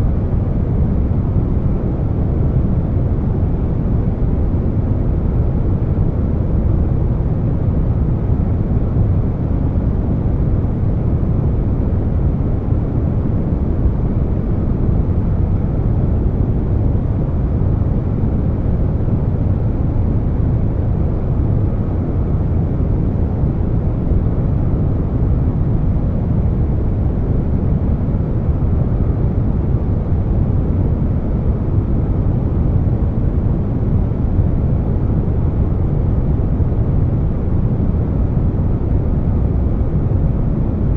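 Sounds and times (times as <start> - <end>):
air conditioner rushing noise: 0.0 - 40.9.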